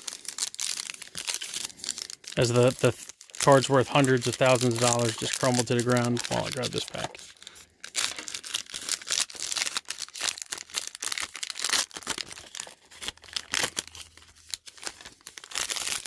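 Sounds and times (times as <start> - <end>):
foil wrapper crinkling and ripping: 0.0 - 16.0.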